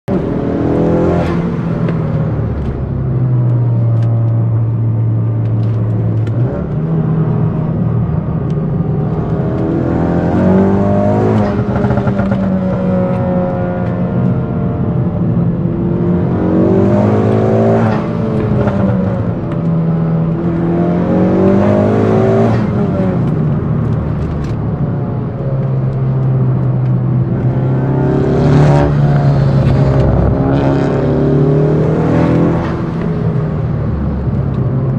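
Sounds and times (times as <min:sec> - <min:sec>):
car engine and exhaust accelerating: 0:00.1 - 0:34.9.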